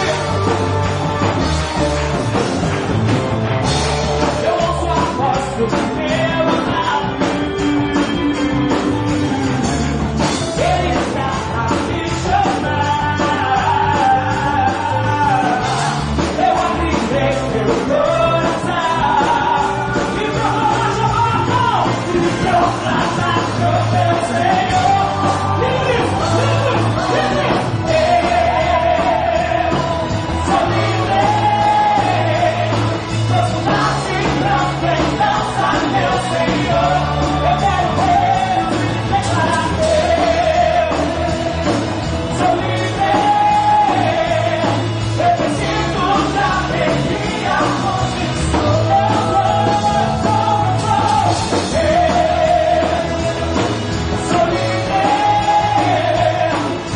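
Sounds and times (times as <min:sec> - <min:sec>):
band playing rock-style groove: 0:00.0 - 0:56.9
person singing: 0:00.0 - 0:56.9.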